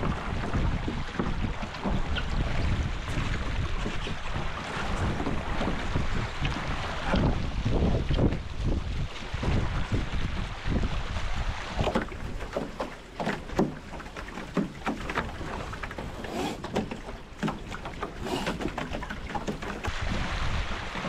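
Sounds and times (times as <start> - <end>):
steady rush of water: 0.0 - 21.0
water slapping against hulls: 0.0 - 21.0.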